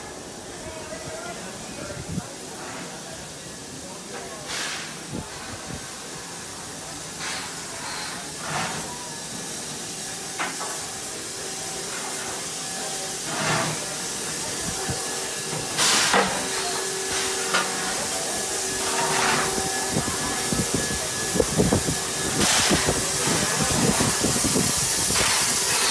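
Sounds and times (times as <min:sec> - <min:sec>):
steam locomotive hissing: 0:00.0 - 0:25.9.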